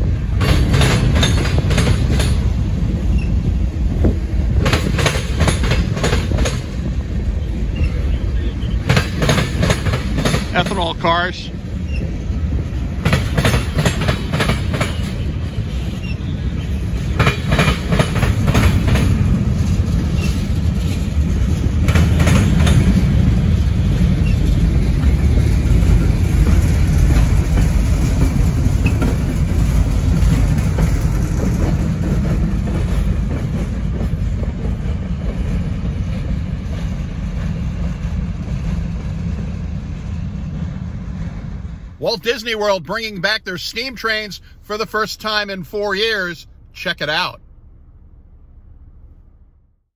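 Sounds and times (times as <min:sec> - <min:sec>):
wheels clickety-clack on rail joints: 0:00.0 - 0:47.3
freight train rumbling past: 0:00.0 - 0:49.8.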